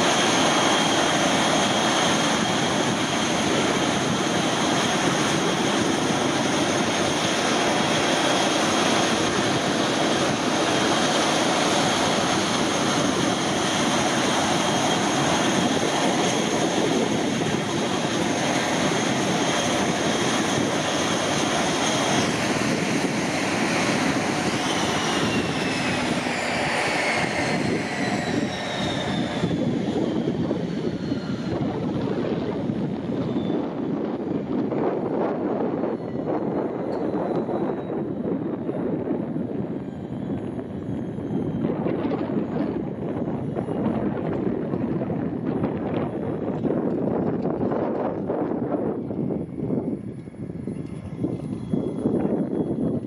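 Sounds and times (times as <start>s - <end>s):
turboprop engines whining: 0.0s - 53.0s.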